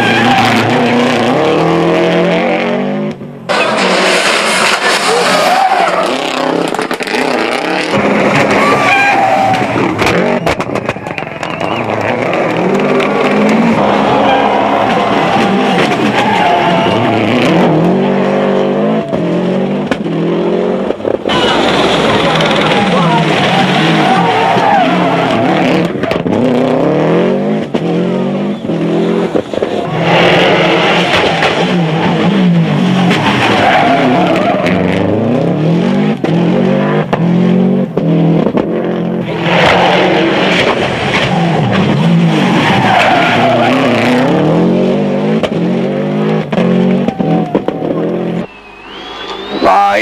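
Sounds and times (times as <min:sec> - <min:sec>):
rally car engine revving: 0:00.0 - 0:50.0
tyres skidding: 0:00.0 - 0:50.0.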